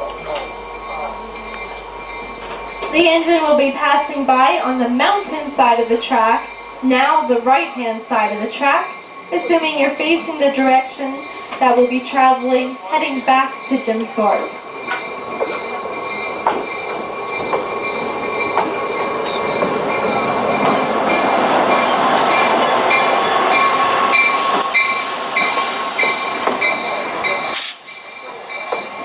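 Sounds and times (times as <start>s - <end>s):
rail joint clicks: 0.0s - 29.0s
train rolling on rails: 0.0s - 29.0s.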